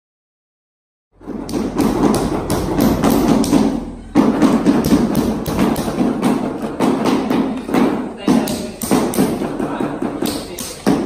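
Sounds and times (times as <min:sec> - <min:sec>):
hammer striking steel chisel: 0:01.2 - 0:11.0.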